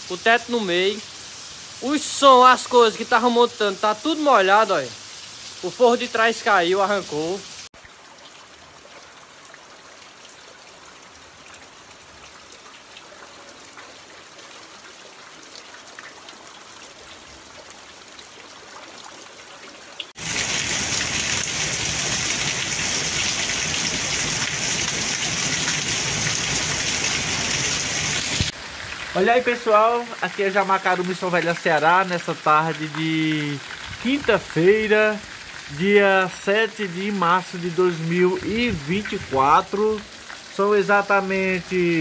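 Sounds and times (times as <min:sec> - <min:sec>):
rain hissing on a road: 0:00.0 - 0:18.9, 0:20.0 - 0:42.0
soft rain on muddy ground: 0:00.0 - 0:42.0.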